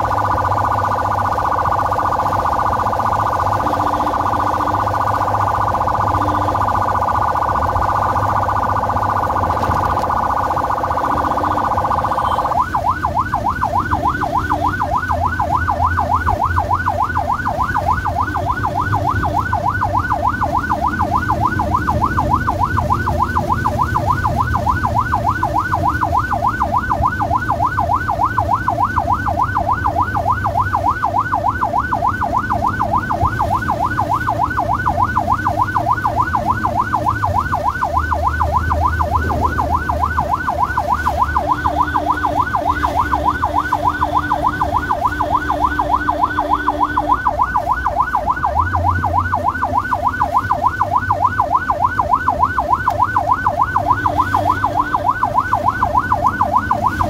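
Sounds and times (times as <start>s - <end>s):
ambulance siren yelping: 0.0s - 57.0s.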